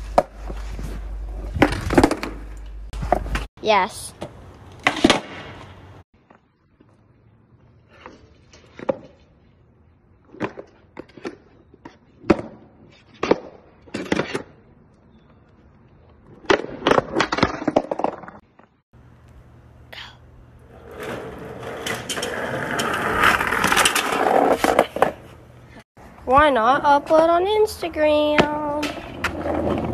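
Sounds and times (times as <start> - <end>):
scooter wheels rolling on concrete: 0.0 - 18.8, 20.6 - 29.9.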